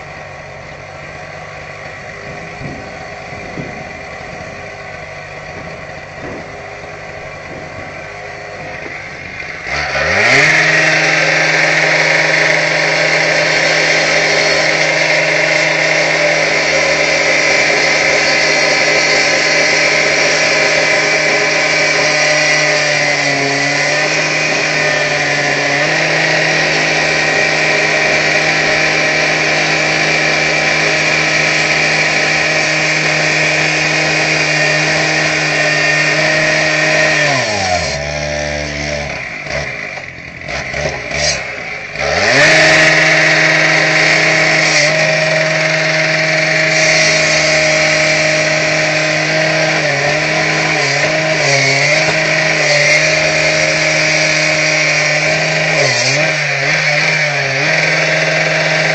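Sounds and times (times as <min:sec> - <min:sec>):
electric grinder cutting brick: 0:00.0 - 0:58.9.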